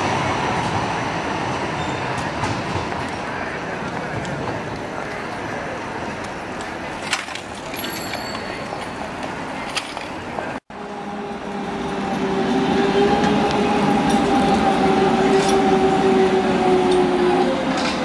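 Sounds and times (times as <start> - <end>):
street din: 0.0 - 18.0
tram whining on track: 0.0 - 18.0.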